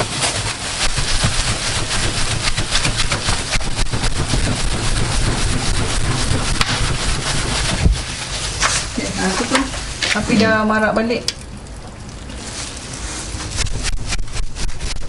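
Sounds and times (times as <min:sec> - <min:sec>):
cloth flapping air rush: 0:00.0 - 0:10.2, 0:12.4 - 0:15.0.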